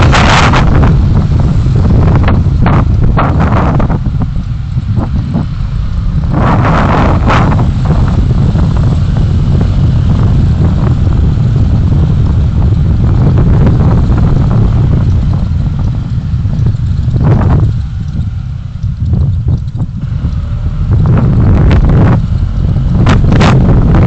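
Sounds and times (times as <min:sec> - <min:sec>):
road and traffic noise: 0:00.0 - 0:24.0
wind buffeting microphone: 0:00.0 - 0:24.0.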